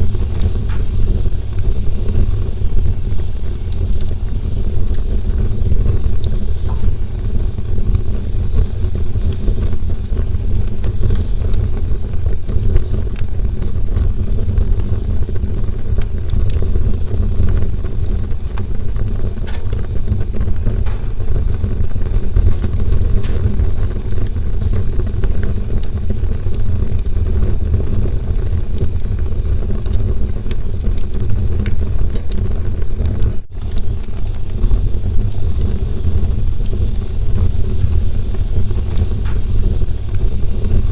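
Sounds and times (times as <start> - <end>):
campfire rumble: 0.0 - 40.9
fire crackles and pops: 0.0 - 40.9.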